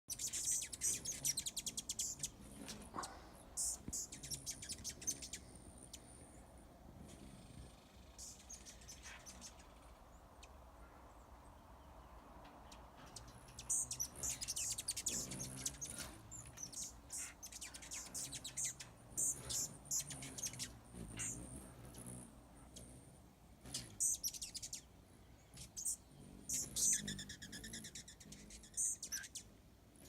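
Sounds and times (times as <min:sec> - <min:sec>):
hummingbirds chipping and chattering: 0:00.1 - 0:30.0.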